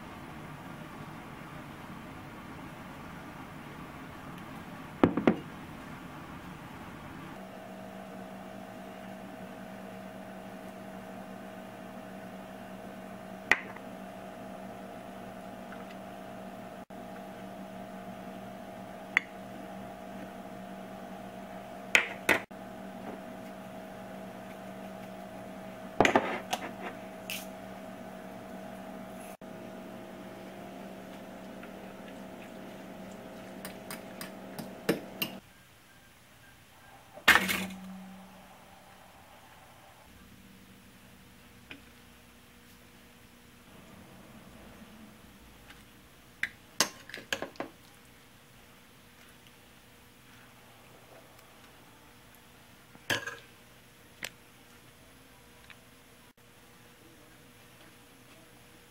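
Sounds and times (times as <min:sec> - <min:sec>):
steady electrical hum: 0:00.0 - 0:58.9.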